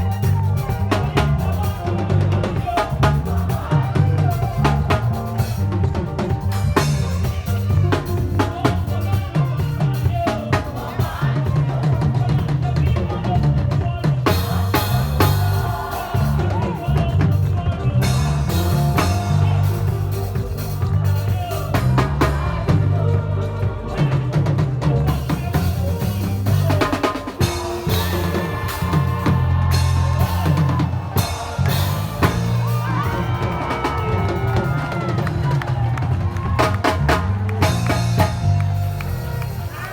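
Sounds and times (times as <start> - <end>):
bass line: 0.0 - 39.9
drum kit: 0.0 - 39.9.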